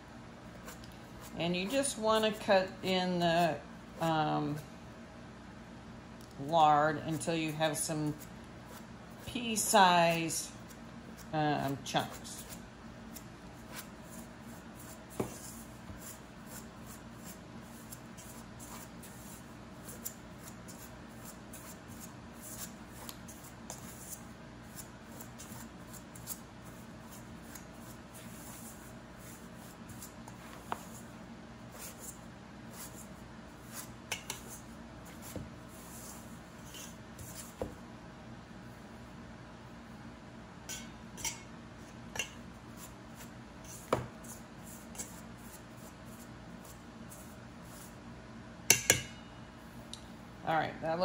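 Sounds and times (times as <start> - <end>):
pastry blender scraping dough: 0.6 - 4.6, 6.5 - 37.7, 40.7 - 48.0.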